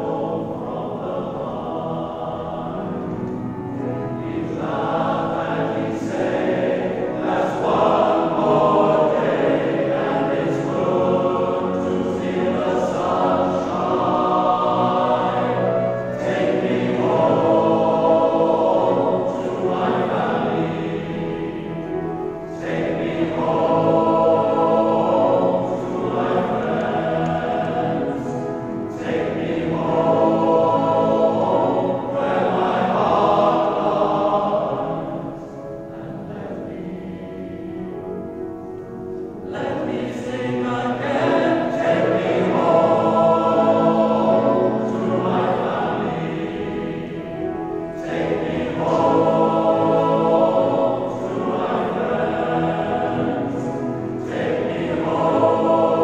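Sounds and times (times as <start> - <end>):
male voice choir singing: 0.0 - 37.8, 39.4 - 56.0.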